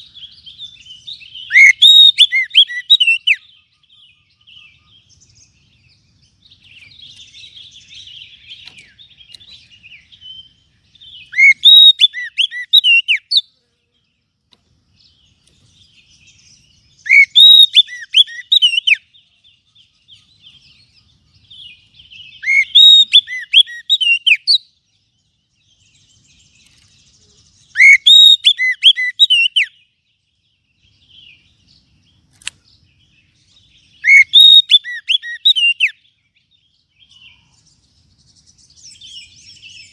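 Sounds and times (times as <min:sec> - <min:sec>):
bird song whistled phrases: 0:00.0 - 0:13.5, 0:15.3 - 0:39.9
bird twittering: 0:00.0 - 0:13.5, 0:15.2 - 0:24.8, 0:25.6 - 0:30.0, 0:30.7 - 0:39.9.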